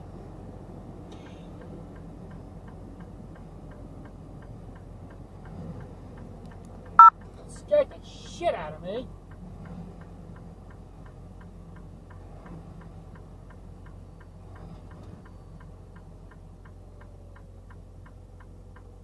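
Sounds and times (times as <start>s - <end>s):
low car hum: 0.0s - 19.0s.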